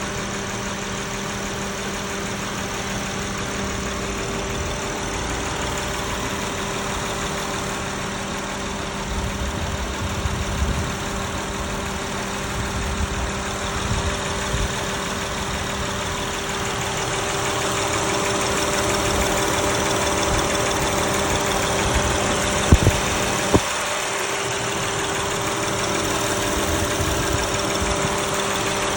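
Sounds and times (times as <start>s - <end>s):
engine idling with ticking: 0.0s - 28.9s.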